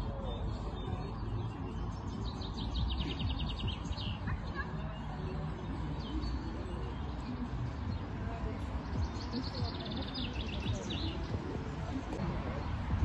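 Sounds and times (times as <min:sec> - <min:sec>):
low outdoor noise: 0:00.0 - 0:13.0.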